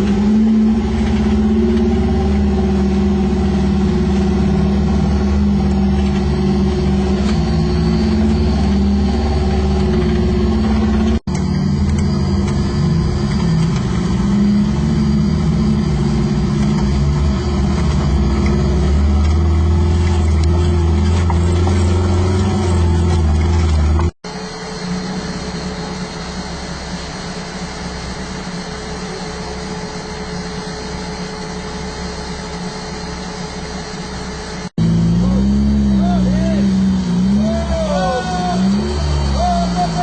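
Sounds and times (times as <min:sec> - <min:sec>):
off-road vehicle engine droning: 0:00.0 - 0:40.0
steady engine hum: 0:00.0 - 0:40.0.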